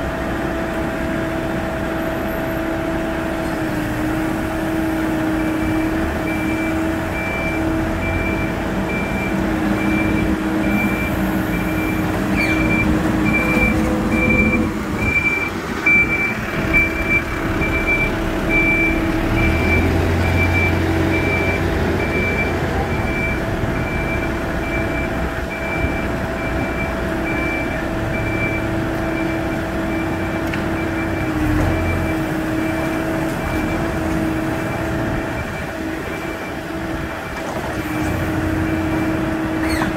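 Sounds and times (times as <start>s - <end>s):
diesel engine running: 0.0s - 39.9s
reversing alarm beeping: 5.4s - 37.4s.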